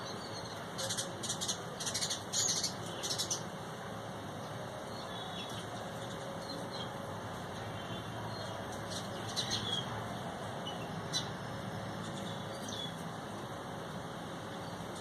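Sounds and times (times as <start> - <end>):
small birds chirping: 0.0 - 3.5, 4.4 - 13.1
low background noise: 0.0 - 15.0.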